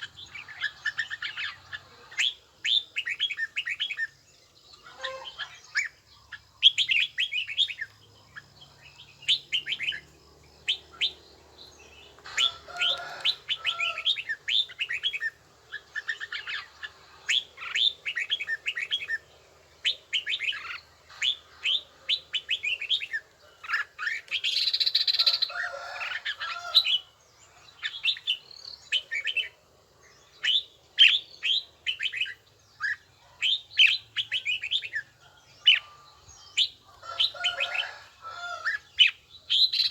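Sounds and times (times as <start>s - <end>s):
bird song whistled notes: 0.0s - 38.0s, 38.7s - 39.9s.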